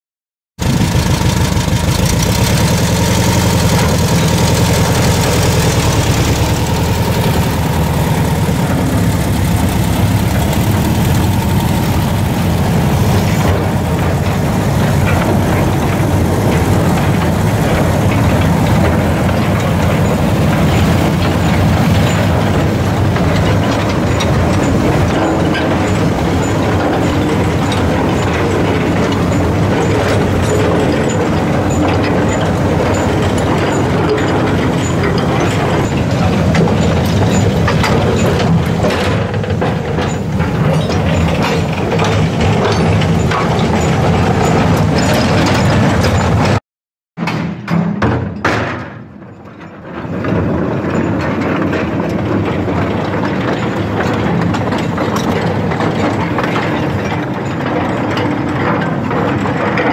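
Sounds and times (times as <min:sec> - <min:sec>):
locomotive engine running: 0:00.6 - 0:46.6, 0:49.1 - 0:59.9
wagon wheels clattering on track: 0:00.6 - 0:46.6, 0:47.2 - 0:59.9.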